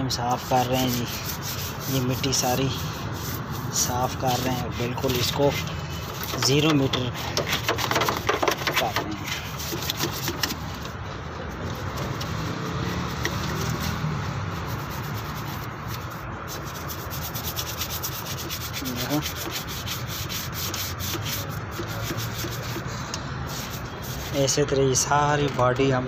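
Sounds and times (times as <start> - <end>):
stiff brush scrubbing metal: 0.0 - 10.9, 12.0 - 25.0.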